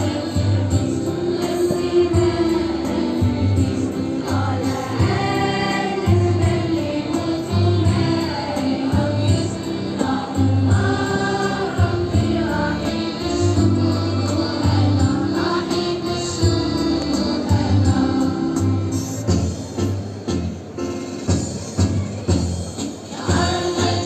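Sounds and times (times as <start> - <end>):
choir singing: 0.0 - 18.9, 23.1 - 24.0.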